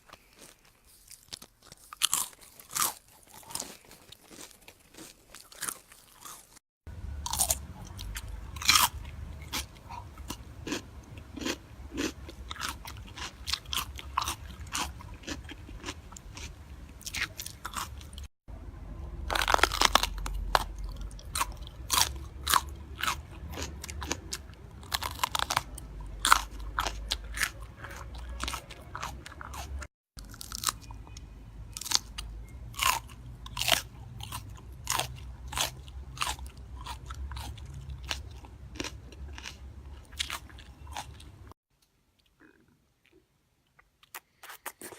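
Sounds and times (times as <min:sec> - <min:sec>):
crunchy food being chewed: 0:00.0 - 0:06.6, 0:07.2 - 0:18.3, 0:19.3 - 0:41.6, 0:42.2 - 0:44.9.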